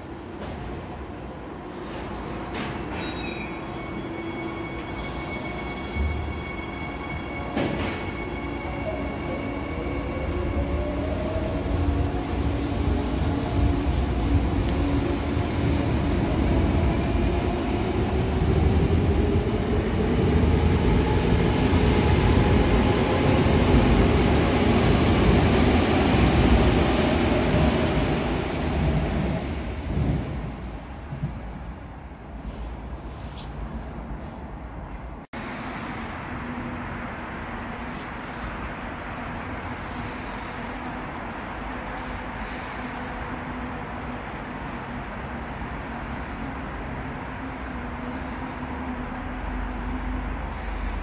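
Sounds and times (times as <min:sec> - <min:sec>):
train wheel and rail noise: 0:00.0 - 0:51.0.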